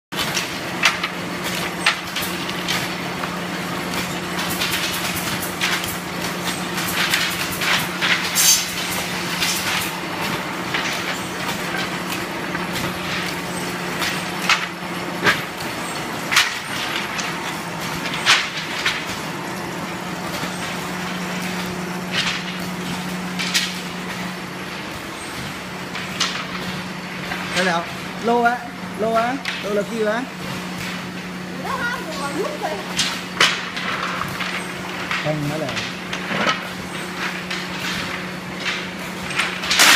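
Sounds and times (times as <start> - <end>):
machine motor hum: 0.2 - 39.9.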